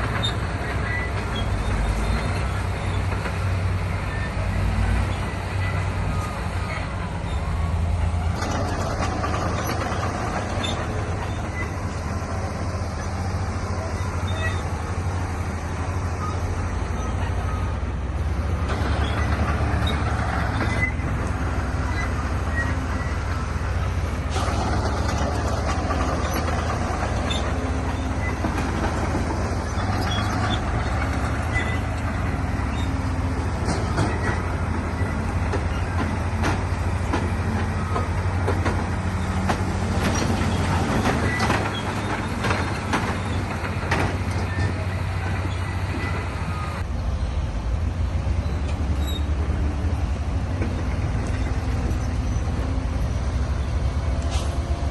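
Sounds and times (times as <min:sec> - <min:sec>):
bulldozer diesel engine running: 0:00.0 - 0:54.9
clanking steel tracks: 0:00.0 - 0:54.9.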